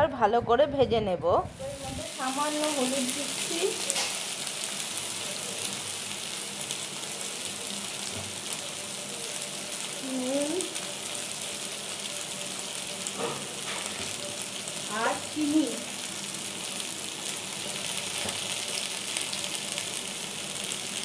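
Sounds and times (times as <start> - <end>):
vegetables sizzling in oil: 1.5 - 21.0.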